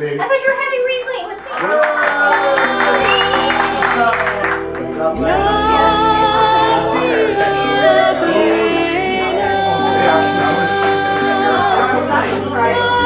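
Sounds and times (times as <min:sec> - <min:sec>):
person singing long gliding notes: 0:02.0 - 0:13.0
steady bass line: 0:02.5 - 0:13.0.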